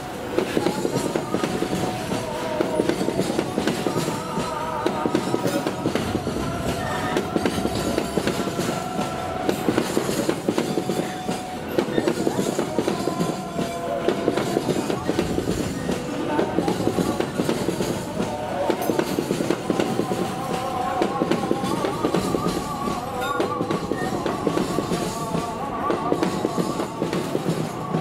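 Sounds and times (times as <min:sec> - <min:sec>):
freight train rumbling past: 0:00.0 - 0:28.0
train wheels clacking on rail joints: 0:00.0 - 0:28.0.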